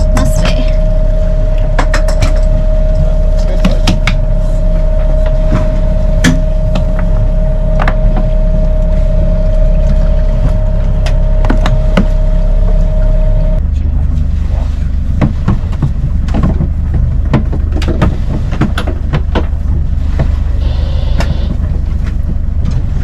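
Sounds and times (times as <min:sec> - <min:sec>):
low rumble with droning tone: 0:00.0 - 0:23.0.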